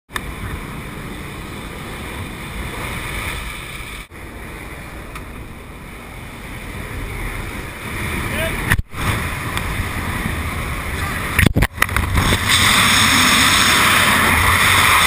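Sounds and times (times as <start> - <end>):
aircraft engine noise: 0.1 - 15.0.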